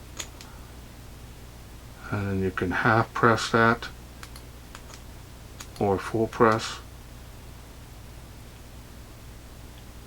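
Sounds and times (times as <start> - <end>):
faint low hum: 0.0 - 10.0
low hiss: 0.1 - 10.0.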